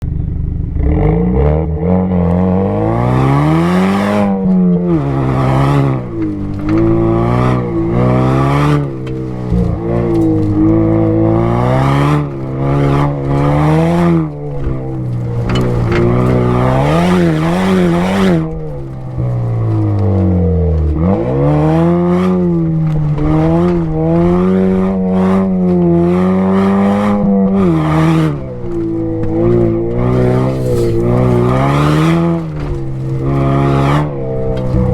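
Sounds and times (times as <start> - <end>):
car exhaust revving: 0.0 - 34.9.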